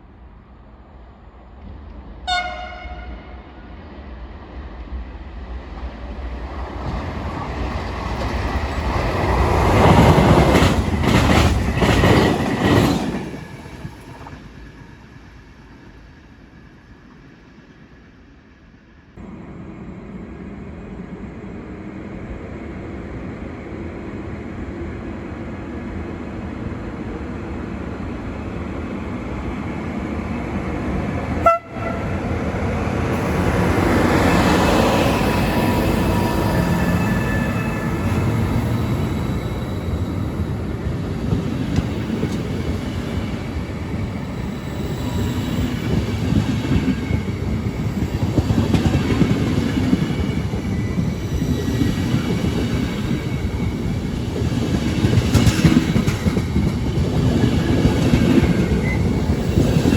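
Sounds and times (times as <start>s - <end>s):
train approaching: 0.0s - 59.9s
train passing at speed: 0.0s - 59.9s.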